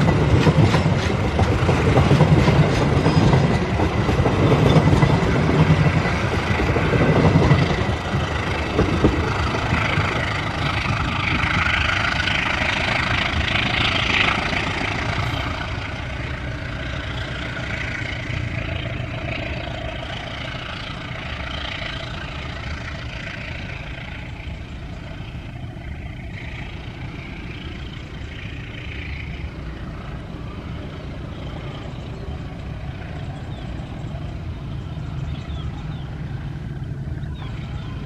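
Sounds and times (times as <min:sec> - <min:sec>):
train wheels rumbling on rail: 0:00.0 - 0:38.0
wheels hissing: 0:00.0 - 0:38.0.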